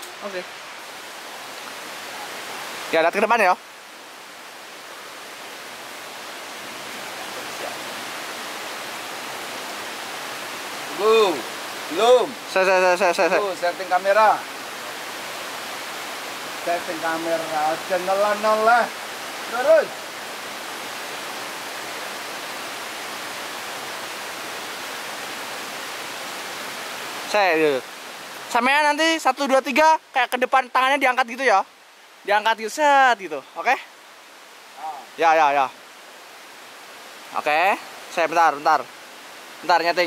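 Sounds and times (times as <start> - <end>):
steady rushing noise in forest: 0.0 - 40.0.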